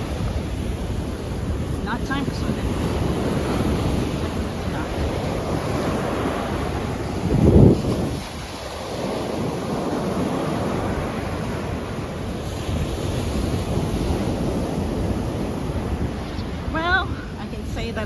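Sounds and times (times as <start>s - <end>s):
waves washing onto beach: 0.0s - 18.0s
wind buffeting microphone: 0.0s - 18.0s.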